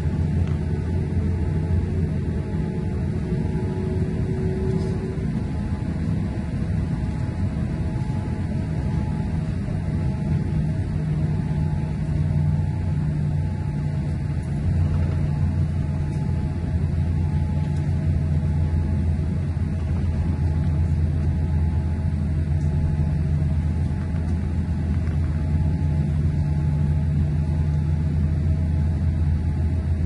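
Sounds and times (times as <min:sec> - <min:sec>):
faint hum tones: 0:00.0 - 0:30.0
jet engines idling rumble: 0:00.0 - 0:30.0.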